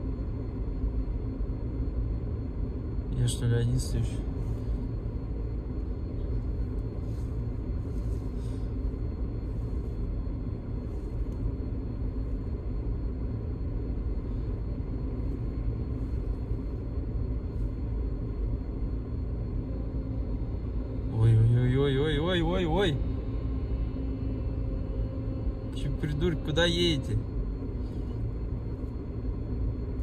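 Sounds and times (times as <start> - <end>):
cabin and road noise: 0.0 - 30.0.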